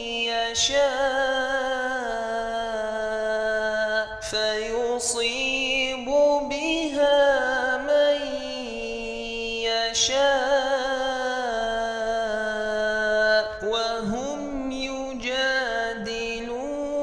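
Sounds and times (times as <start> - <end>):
person reciting melodically: 0.0 - 17.0.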